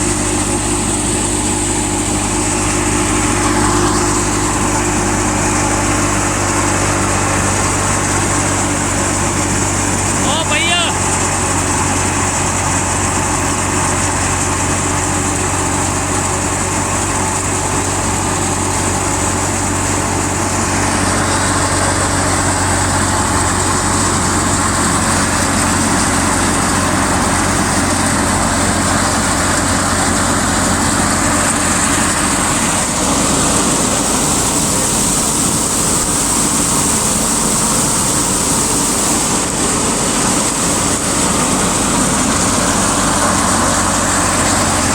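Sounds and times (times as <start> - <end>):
farm machinery running: 0.0 - 44.9.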